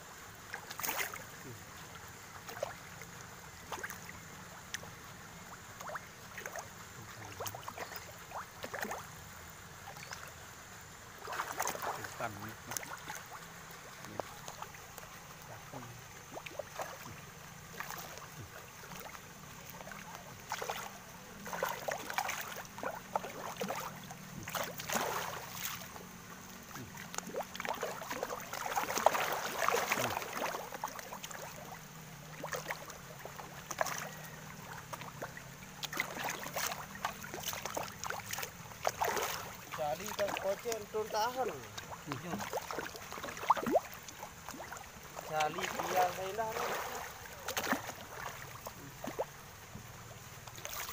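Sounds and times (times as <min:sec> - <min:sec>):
water splashing and lapping: 0:00.0 - 0:50.9
fish splashing at surface: 0:00.4 - 0:01.4, 0:05.8 - 0:09.1, 0:11.2 - 0:49.6, 0:50.4 - 0:50.9.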